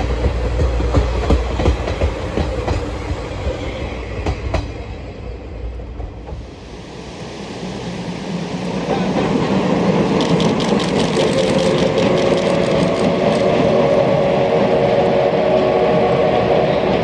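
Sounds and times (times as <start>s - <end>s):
steam train crossing steel bridge: 0.0s - 17.0s.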